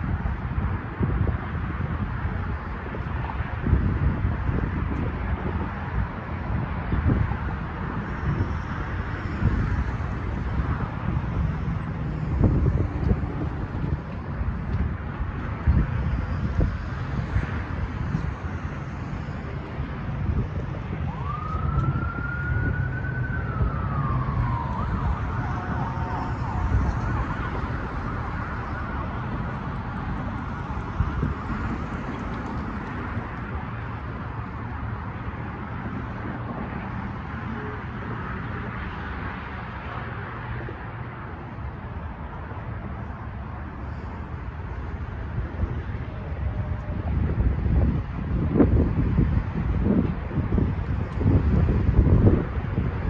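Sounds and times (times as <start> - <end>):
cars rumbling over railroad crossing: 0.0 - 53.0
emergency vehicle siren wailing: 1.0 - 53.0.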